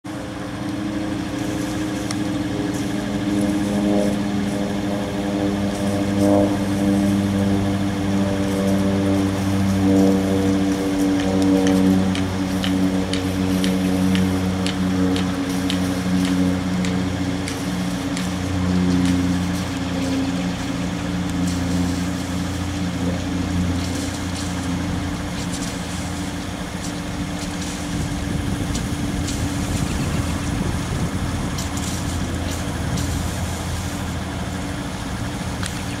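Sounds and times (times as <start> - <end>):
propeller plane droning overhead: 0.0 - 36.0.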